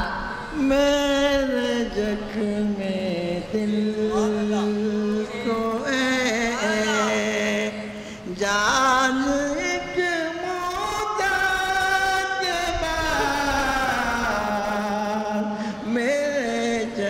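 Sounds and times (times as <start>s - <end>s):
boy singing devotional chant: 0.0s - 17.0s
elderly man singing: 0.0s - 17.0s.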